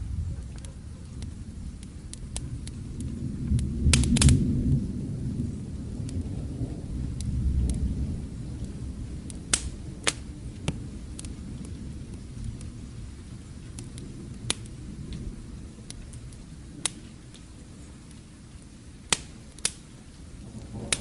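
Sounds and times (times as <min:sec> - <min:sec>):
distant thunder rumble: 0:00.0 - 0:21.0
rain hiss: 0:00.0 - 0:21.0
wood fire crackling and popping: 0:00.0 - 0:21.0.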